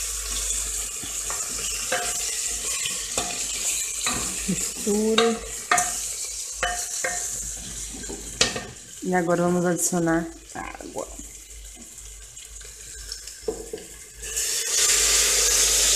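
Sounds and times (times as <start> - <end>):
steady sizzle: 0.0 - 15.9.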